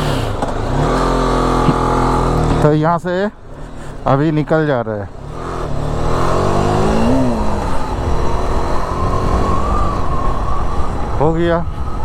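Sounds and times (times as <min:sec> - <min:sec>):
motorcycle engine accelerating: 0:00.0 - 0:02.9, 0:03.6 - 0:12.0
wind and road noise: 0:00.0 - 0:12.0.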